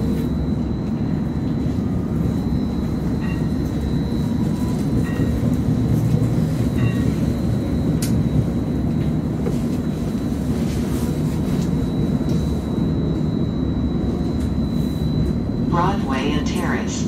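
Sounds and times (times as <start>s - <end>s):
streetcar running gear rumble: 0.0s - 17.0s
thin high whine: 0.0s - 17.0s.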